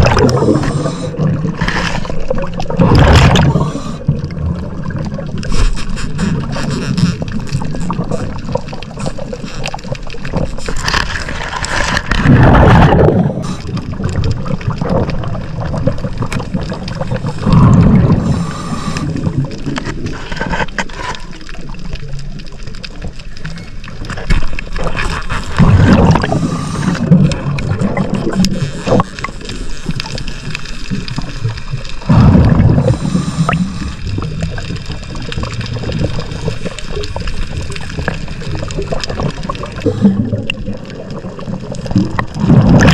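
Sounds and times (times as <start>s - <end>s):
exhaled bubbles rushing up: 0.0s - 5.5s, 7.2s - 20.5s, 24.6s - 30.1s, 30.8s - 42.9s
underwater gurgling: 0.0s - 42.9s.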